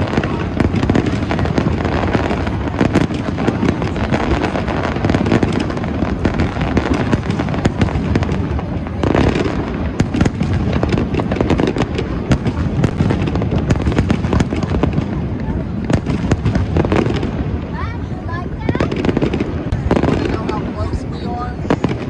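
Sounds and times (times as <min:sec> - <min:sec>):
fireworks crackling and popping: 0:00.0 - 0:22.0
heavy firework boom: 0:00.0 - 0:22.0.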